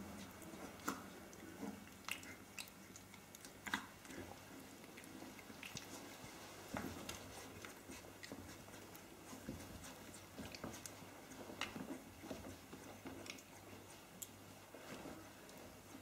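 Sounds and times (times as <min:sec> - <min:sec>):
puppies mouthing and chewing: 0:00.0 - 0:16.0.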